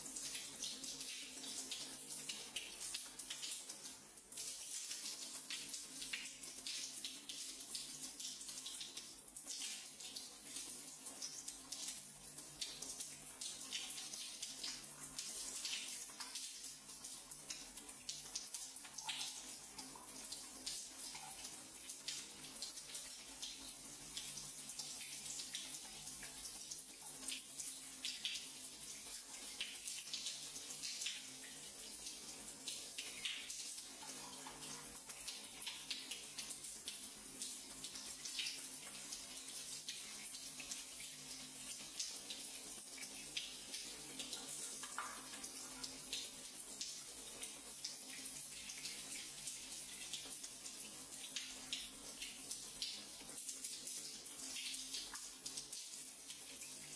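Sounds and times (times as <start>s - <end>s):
shower water splashing on hands: 0.0s - 56.9s.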